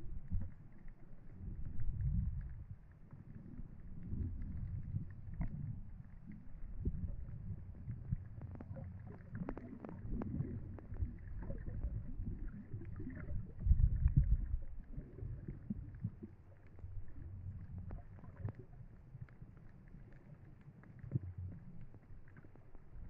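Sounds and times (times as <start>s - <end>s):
underwater rumble of moving water: 0.0s - 23.0s.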